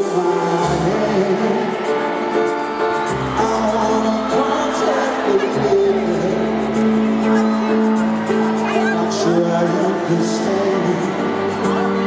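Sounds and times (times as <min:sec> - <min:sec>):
band accompaniment: 0:00.0 - 0:12.0
man singing pop ballad: 0:00.0 - 0:12.0.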